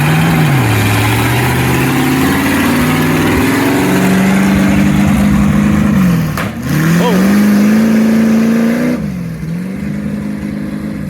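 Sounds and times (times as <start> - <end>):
engine running and revving: 0.0 - 11.0.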